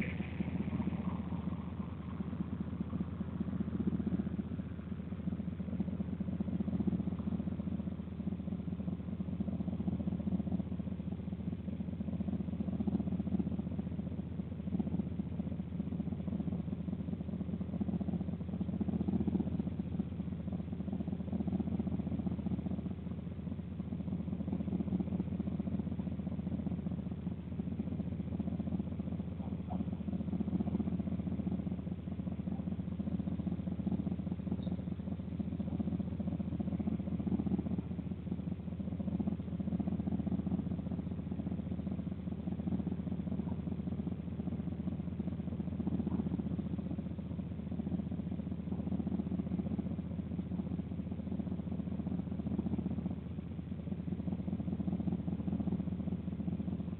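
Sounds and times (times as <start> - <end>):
faint hum: 0.0 - 56.9
steady low rumble: 0.0 - 56.9.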